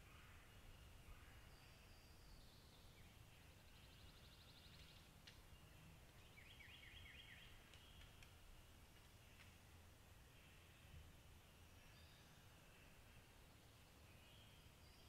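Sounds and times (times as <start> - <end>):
songbirds calling: 0.0 - 15.0.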